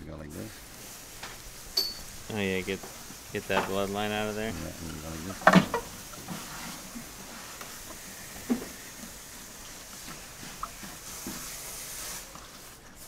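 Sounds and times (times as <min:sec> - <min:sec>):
steady faint hiss: 0:00.0 - 0:13.0.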